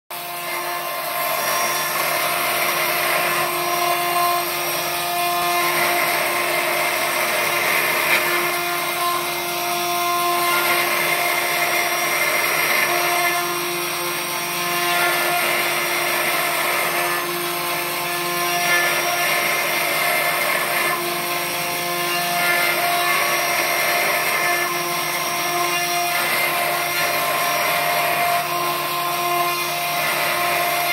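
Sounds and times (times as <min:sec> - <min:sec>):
router spindle cutting wood: 0:00.1 - 0:30.9.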